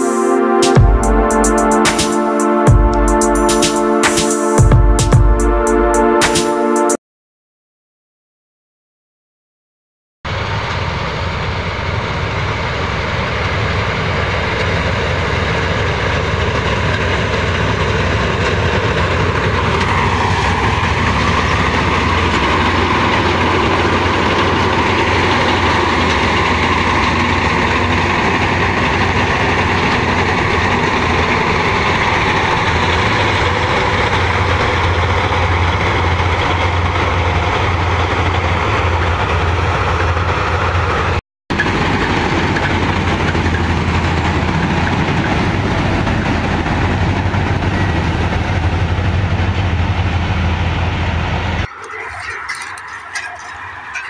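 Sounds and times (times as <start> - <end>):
combine harvester engine drone: 10.3 - 54.0.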